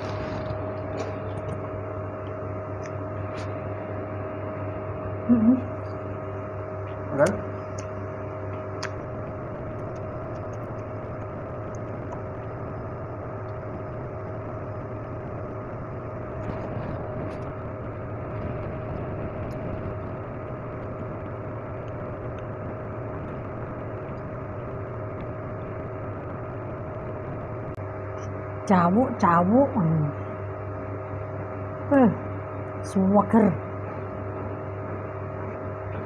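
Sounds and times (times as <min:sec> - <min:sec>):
electric motor hum: 0:00.0 - 0:36.0.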